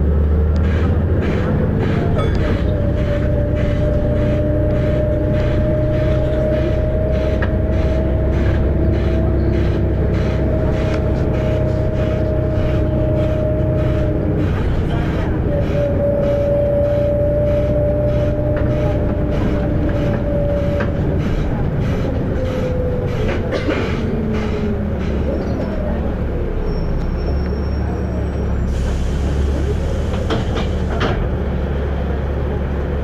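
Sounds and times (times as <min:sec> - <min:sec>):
bus diesel engine running: 0:00.0 - 0:33.0
engine whine: 0:00.0 - 0:33.0.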